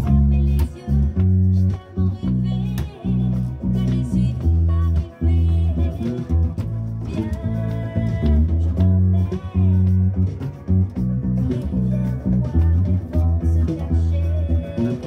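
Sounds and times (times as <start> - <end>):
electric bass guitar fingerstyle: 0.0 - 15.0
pop song recording: 0.0 - 15.0.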